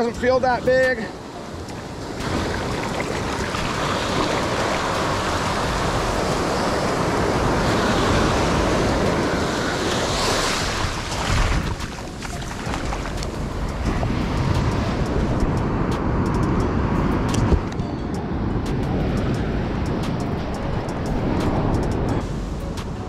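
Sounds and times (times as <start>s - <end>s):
ocean surf on beach: 0.0s - 22.2s.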